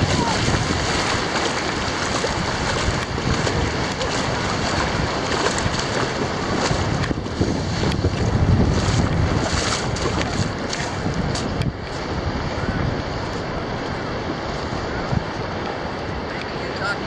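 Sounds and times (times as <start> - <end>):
small surf at shoreline: 0.0 - 17.0
wind buffeting microphone: 0.0 - 17.0.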